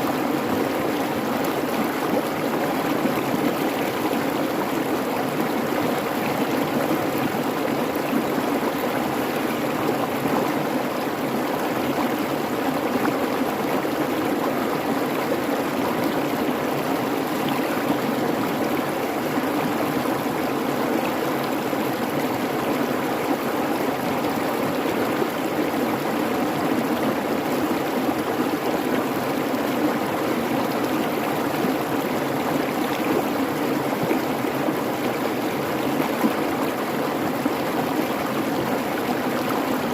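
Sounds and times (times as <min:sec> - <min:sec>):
creek water babbling over rocks: 0:00.0 - 0:39.9.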